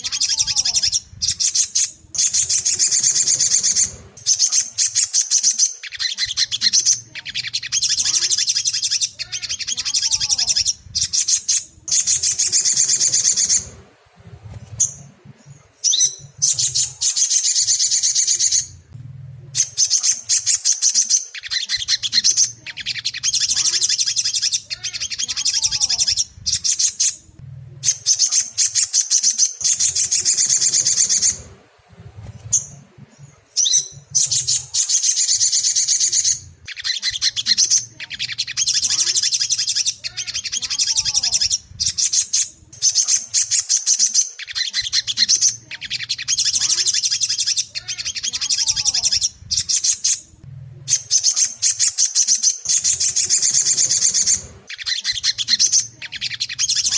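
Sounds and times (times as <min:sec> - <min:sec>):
sunbird chattering trills: 0:00.0 - 0:13.8, 0:14.4 - 0:18.9, 0:19.6 - 0:56.9.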